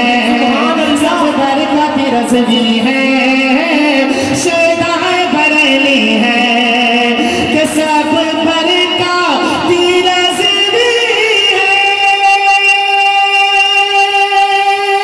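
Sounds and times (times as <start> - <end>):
man singing over loudspeakers: 0.0 - 15.0.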